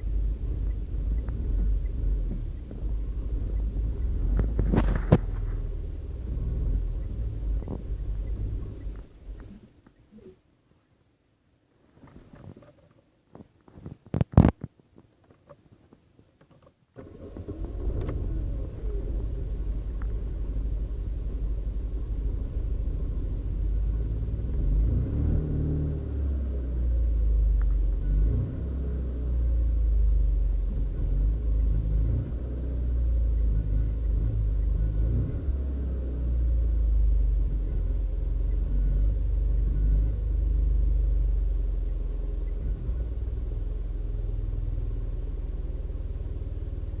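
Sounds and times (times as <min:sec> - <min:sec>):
small car engine rumble: 0:00.0 - 0:10.5, 0:15.2 - 0:47.0.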